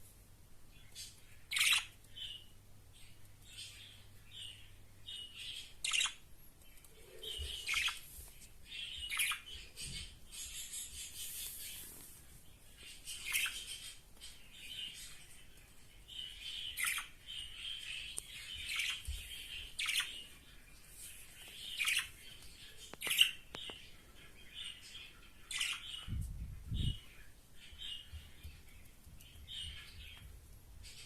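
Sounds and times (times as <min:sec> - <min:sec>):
budgerigars chirping and warbling: 0:00.9 - 0:06.3, 0:06.9 - 0:08.0, 0:08.7 - 0:11.9, 0:12.7 - 0:28.6.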